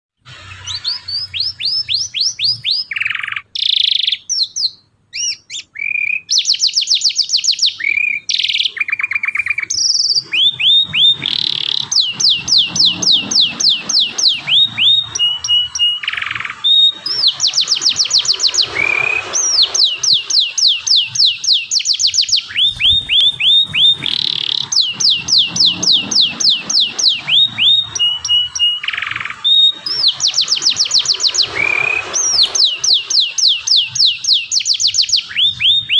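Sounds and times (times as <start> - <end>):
canary singing: 0.2 - 35.9.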